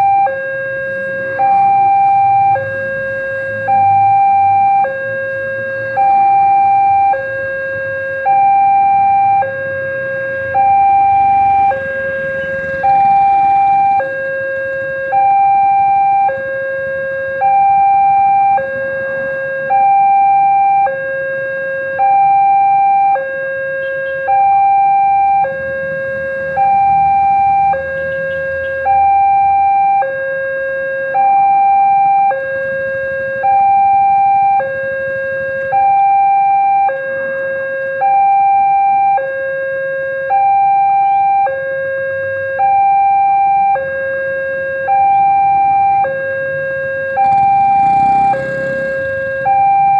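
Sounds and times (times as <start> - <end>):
two-tone level-crossing alarm: 0.0 - 49.9.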